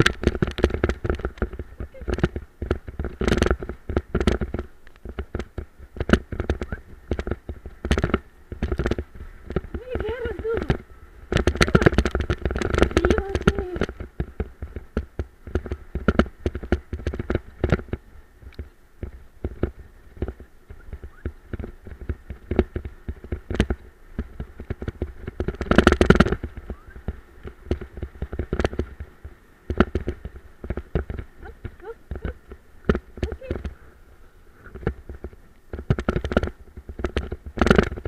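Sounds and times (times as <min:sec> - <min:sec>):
cart rattling over dirt track: 0:00.0 - 0:18.2, 0:19.0 - 0:33.8, 0:34.6 - 0:38.0.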